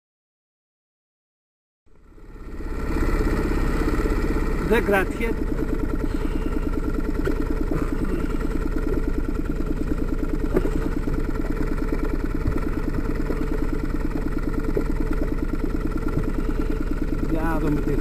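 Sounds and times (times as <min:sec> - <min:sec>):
outboard motor idling: 0:01.9 - 0:18.0.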